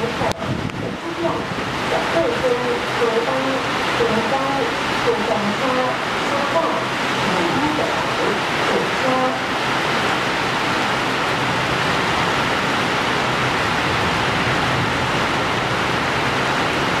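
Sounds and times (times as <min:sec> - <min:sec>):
electric train low hum: 0:00.0 - 0:17.0
heavy rain pouring: 0:00.0 - 0:17.0.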